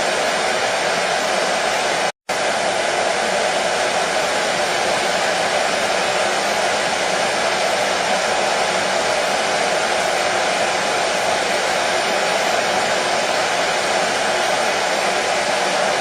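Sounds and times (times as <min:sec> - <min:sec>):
hair dryer blowing: 0:00.0 - 0:16.0.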